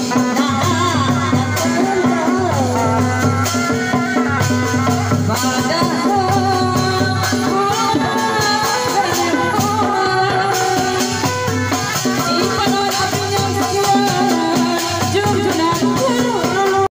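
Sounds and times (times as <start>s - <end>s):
drums: 0.0s - 16.9s
rattling percussion: 0.0s - 16.9s.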